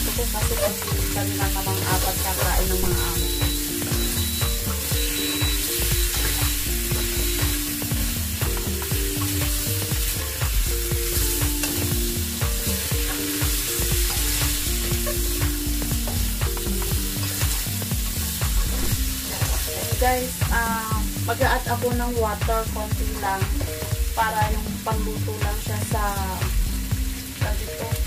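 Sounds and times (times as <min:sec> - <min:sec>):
food sizzling in a wok: 0:00.0 - 0:28.0.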